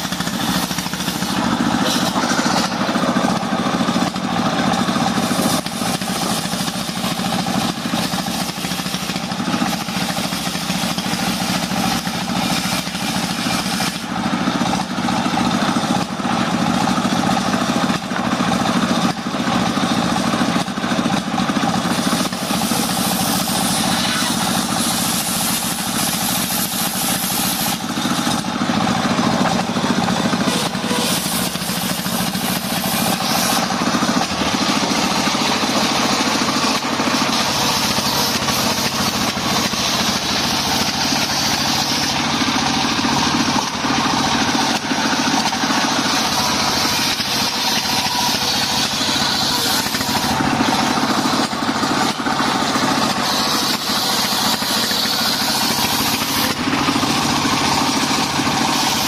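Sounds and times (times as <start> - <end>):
circular saw blade cutting wood: 0.0 - 59.0
stationary engine running: 0.0 - 59.0.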